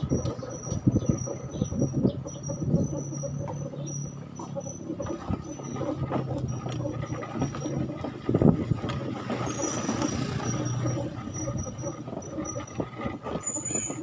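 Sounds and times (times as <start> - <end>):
vehicle engine running: 0.0 - 14.0
vehicle rattling on rough road: 0.0 - 14.0.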